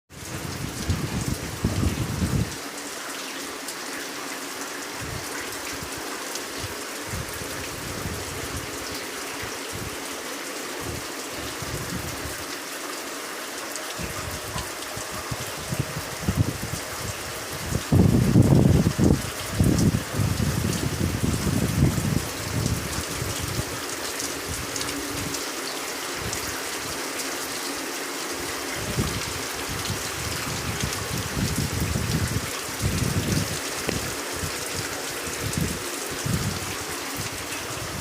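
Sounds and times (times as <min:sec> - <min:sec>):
steady rain falling: 0:00.1 - 0:38.0.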